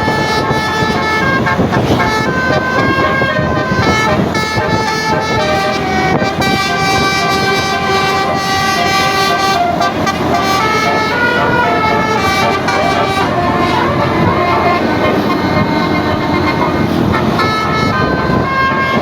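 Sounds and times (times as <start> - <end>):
bus horn playing a melody: 0.0 - 19.0.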